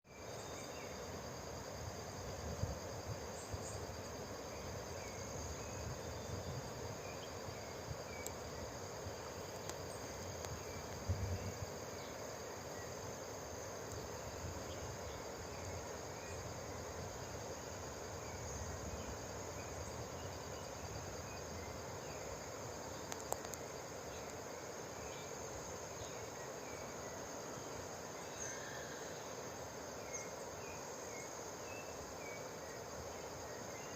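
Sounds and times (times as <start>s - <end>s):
background hiss: 0.0s - 33.9s
faint chirps: 3.3s - 33.9s.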